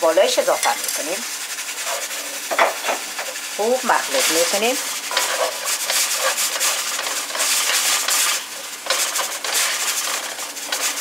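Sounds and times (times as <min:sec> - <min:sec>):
spices sizzling in hot oil: 0:00.0 - 0:11.0
spatula scraping a pot: 0:00.5 - 0:11.0.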